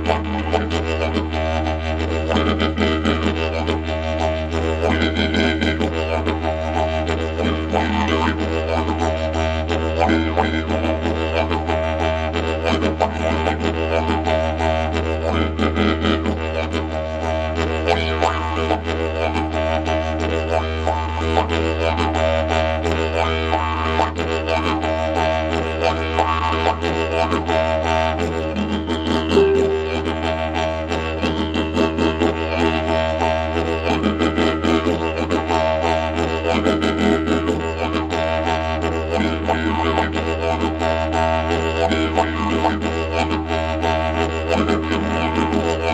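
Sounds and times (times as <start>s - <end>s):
didgeridoo low drone: 0.0s - 45.9s.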